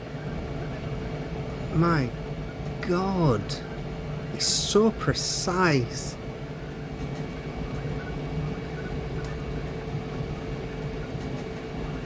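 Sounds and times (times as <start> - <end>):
print head whirring: 0.0 - 12.0
printer mechanical hum: 0.0 - 12.0.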